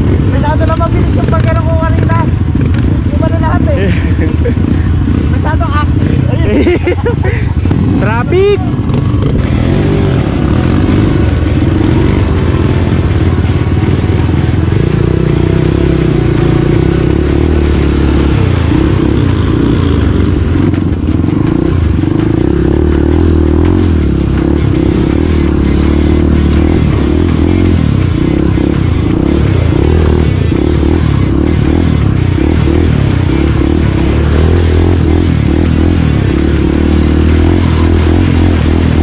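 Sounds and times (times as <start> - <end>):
dirt bike engine: 0.0 - 39.0.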